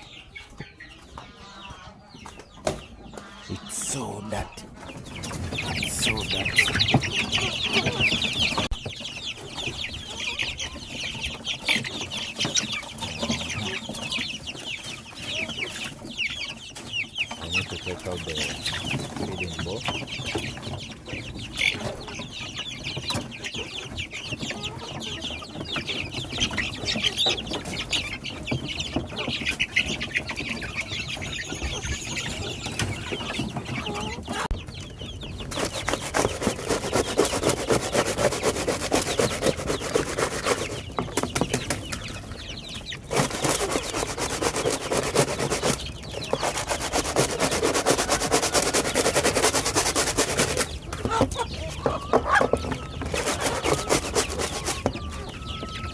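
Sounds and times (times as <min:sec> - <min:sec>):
chickens clucking: 0:00.0 - 0:55.9
chirping calls: 0:00.0 - 0:55.9.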